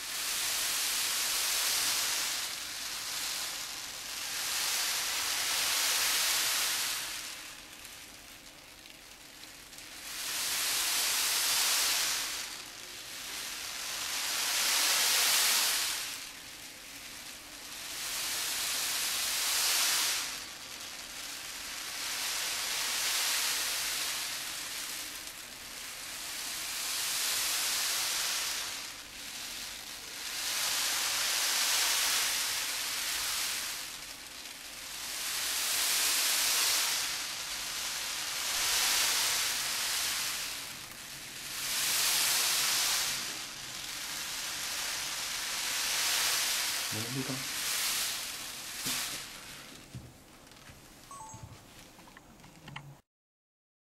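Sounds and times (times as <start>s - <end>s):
beans rolling and rustling: 0.0s - 52.8s.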